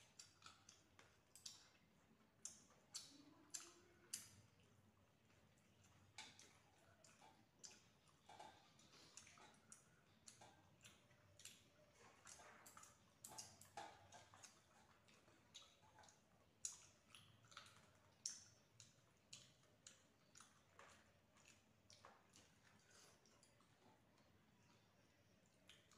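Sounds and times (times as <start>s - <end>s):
chewing: 0.0s - 25.9s.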